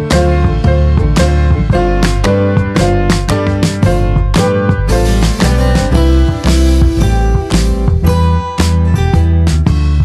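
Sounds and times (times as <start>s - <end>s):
instrumental music with strong bass: 0.0s - 10.0s.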